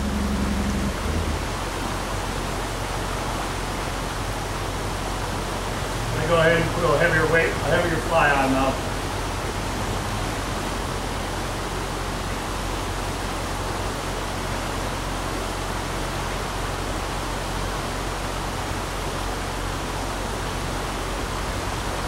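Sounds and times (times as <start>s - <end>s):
stream rushing over riffles: 0.0s - 22.0s.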